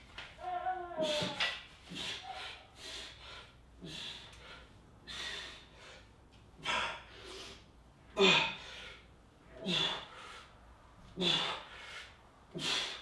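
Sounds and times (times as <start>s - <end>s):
man breathing hard: 1.0s - 13.0s.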